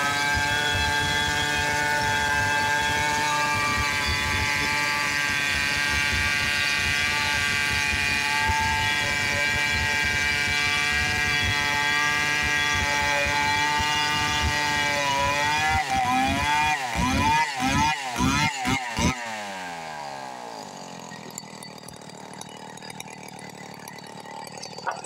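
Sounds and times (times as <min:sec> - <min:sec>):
chainsaw cutting through log: 0:00.0 - 0:25.0.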